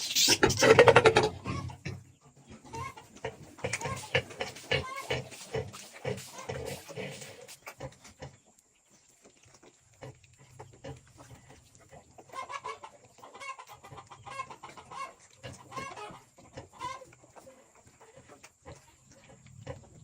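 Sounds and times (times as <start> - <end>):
farm animal calls: 0.0 - 8.5, 9.6 - 20.0.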